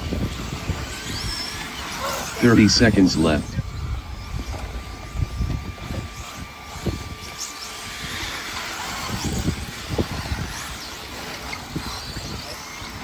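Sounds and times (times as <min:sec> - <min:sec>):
toy car motor whine: 0:00.0 - 0:13.0.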